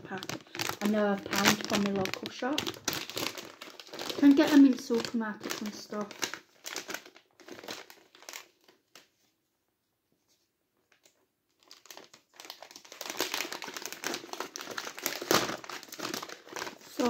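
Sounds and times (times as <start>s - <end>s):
plastic snack bag crinkling: 0.0s - 9.3s, 10.9s - 17.0s.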